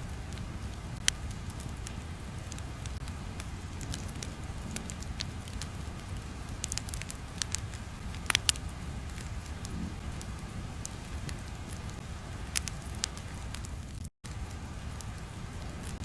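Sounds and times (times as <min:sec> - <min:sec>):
crackling pops and clicks: 0:00.0 - 0:16.0
steady low rumble: 0:00.0 - 0:16.0.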